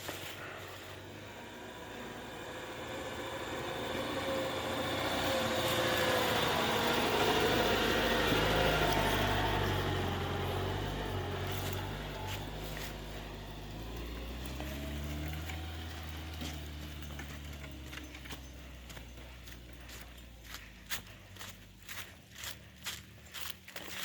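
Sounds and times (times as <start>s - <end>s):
vehicle passing by: 0.0s - 24.0s.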